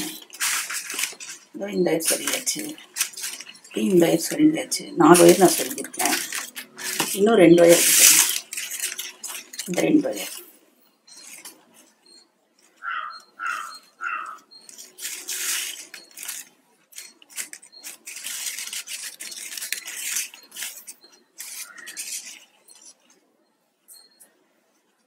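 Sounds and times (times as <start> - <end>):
plastic wire rustling and scraping: 0.0 - 12.8, 13.4 - 23.3.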